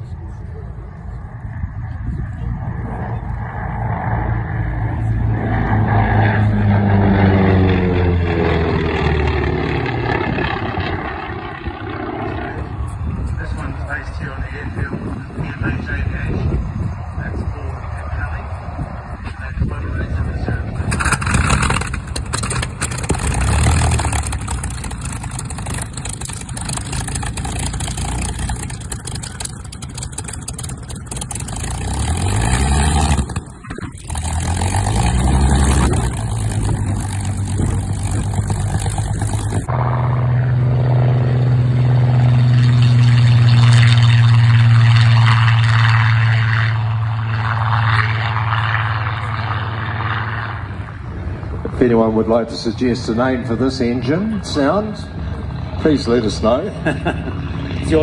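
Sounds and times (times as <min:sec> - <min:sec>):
deep engine drone: 0:00.0 - 0:58.0
piston aircraft engine revving: 0:00.0 - 0:58.0.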